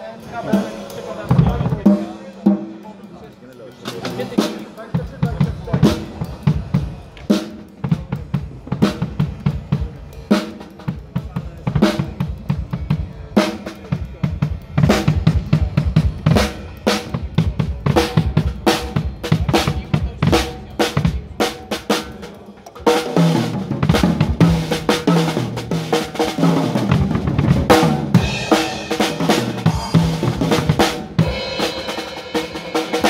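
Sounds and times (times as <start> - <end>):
cymbals: 5.5 - 33.0.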